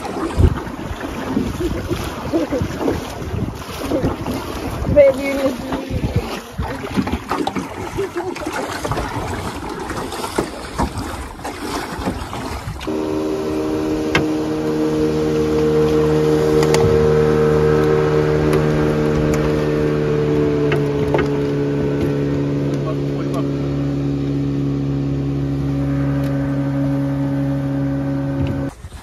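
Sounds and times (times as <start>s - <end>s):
outboard motor idling: 0.0s - 28.8s
water rushing past boat: 0.0s - 29.0s.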